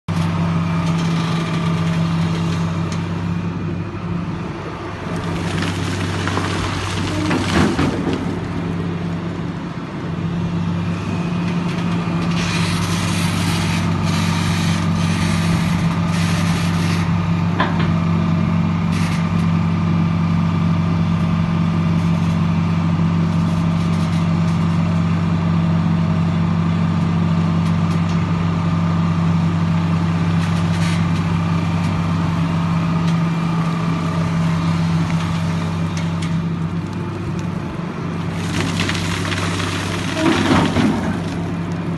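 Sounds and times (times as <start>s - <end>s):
excavator diesel engine droning: 0.1s - 41.9s.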